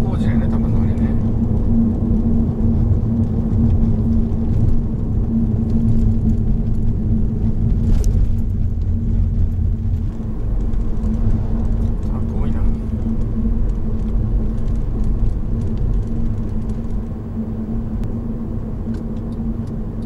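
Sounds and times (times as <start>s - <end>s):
minivan engine and tyre rumble: 0.0s - 20.0s.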